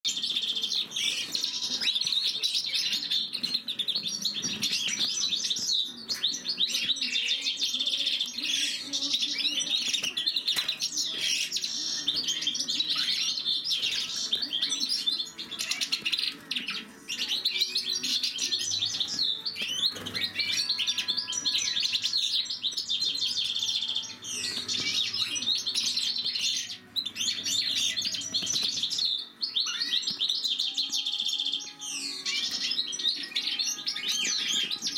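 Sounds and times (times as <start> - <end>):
goldfinches twittering song: 0.1 - 34.9.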